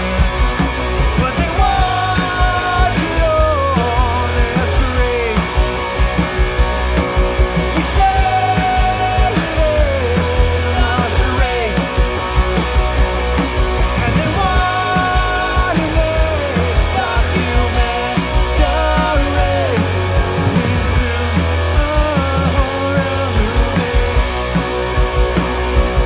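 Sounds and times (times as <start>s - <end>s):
punk rock band playing live: 0.0s - 26.0s.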